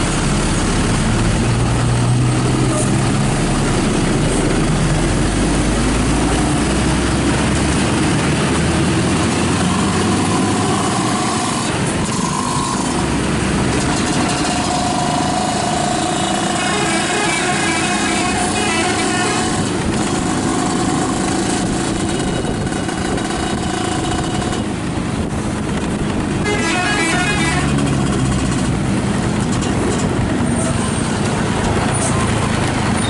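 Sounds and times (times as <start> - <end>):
road noise: 0.0 - 33.0
vehicle engines running: 0.0 - 33.0.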